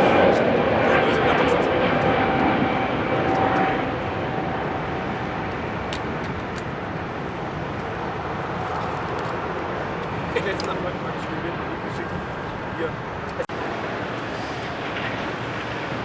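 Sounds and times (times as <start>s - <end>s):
jet engine rush with whine: 0.0s - 16.0s.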